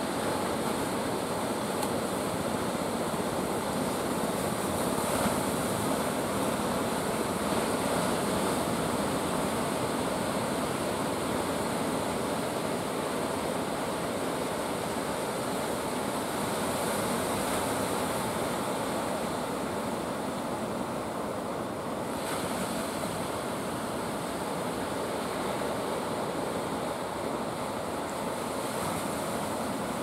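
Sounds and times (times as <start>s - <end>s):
sea waves breaking: 0.0s - 30.0s.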